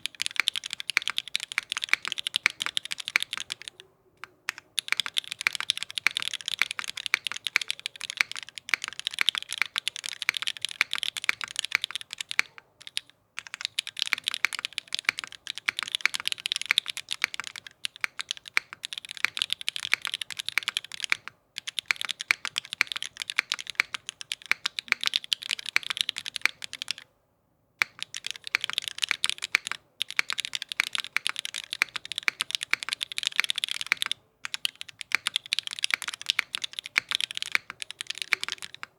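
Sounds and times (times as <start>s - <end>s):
mechanical keyboard typing: 0.0s - 27.1s, 27.8s - 38.9s.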